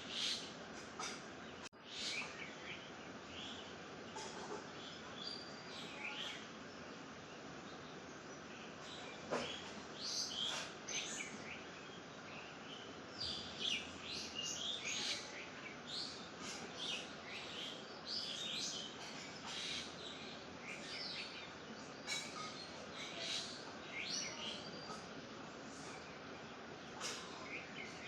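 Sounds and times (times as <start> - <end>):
faint background hiss: 0.0 - 28.0
small birds chirping: 0.0 - 28.0.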